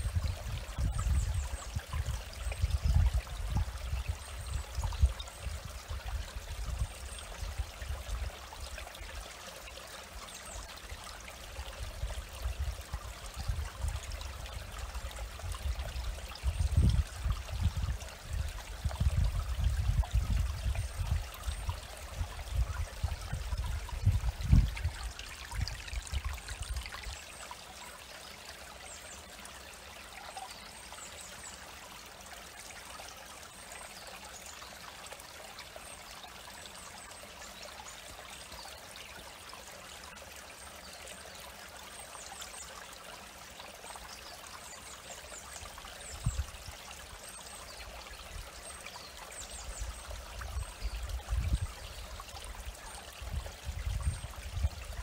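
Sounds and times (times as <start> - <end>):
stream trickling over pebbles: 0.0 - 55.0.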